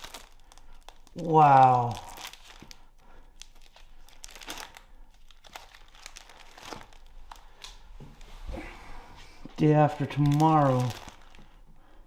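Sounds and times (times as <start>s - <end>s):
paper rustling and crinkling: 0.0s - 8.6s, 9.5s - 11.6s.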